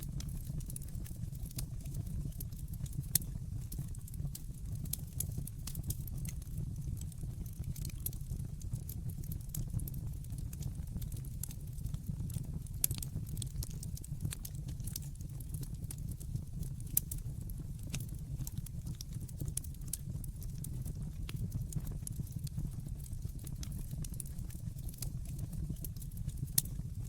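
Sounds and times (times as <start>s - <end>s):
fire popping: 0.0s - 8.0s, 10.8s - 26.8s
fire crackling in fireplace: 0.0s - 27.0s.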